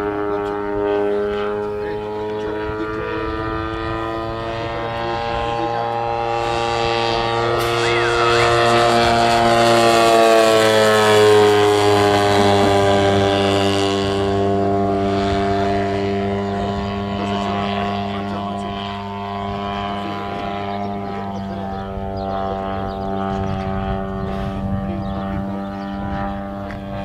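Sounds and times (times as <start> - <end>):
model plane engine and propeller: 0.0 - 27.0.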